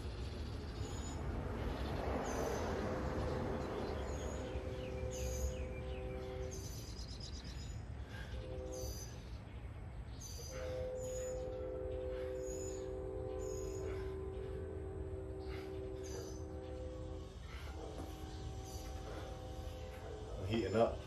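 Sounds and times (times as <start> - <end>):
birds chirping: 0.0 - 21.0
passing traffic: 0.0 - 21.0.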